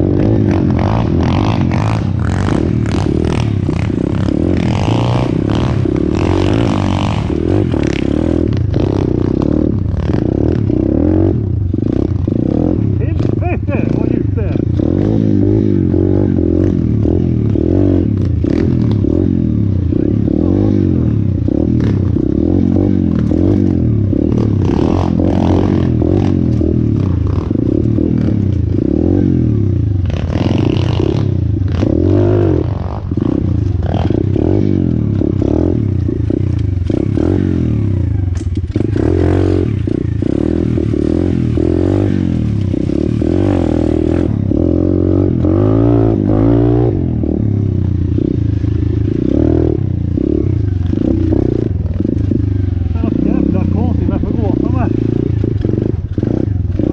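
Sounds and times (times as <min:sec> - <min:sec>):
pit bike engine revving: 0:00.0 - 0:56.9.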